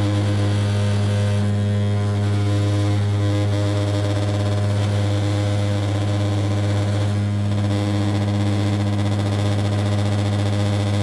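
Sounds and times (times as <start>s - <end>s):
propeller drone: 0.0s - 11.0s.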